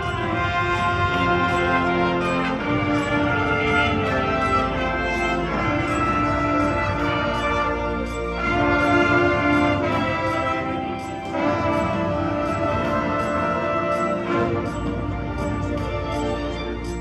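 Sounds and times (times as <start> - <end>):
brass chords: 0.0 - 17.0.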